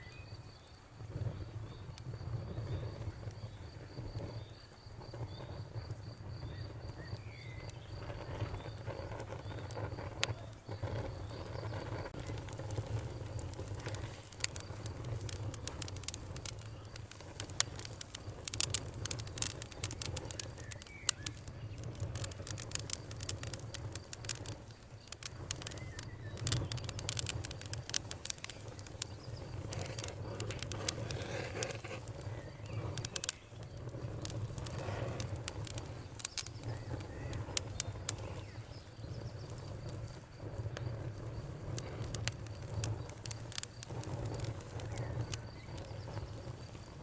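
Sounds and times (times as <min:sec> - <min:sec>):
faint bird chirps: 0:00.0 - 0:12.4, 0:19.1 - 0:23.3, 0:24.2 - 0:41.0, 0:42.0 - 0:46.8
campfire crackling and popping: 0:00.0 - 0:47.0
low rumble of burning fire: 0:00.0 - 0:47.0.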